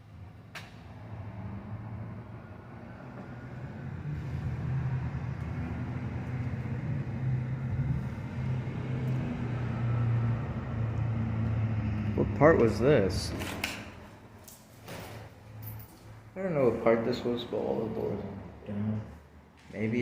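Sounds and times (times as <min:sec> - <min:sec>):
motor vehicle engine rumble: 0:00.0 - 0:18.5.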